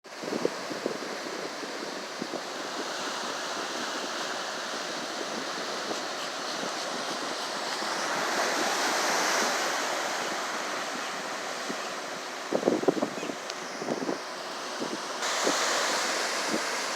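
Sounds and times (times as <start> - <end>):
ocean surf breaking: 0.1 - 16.9.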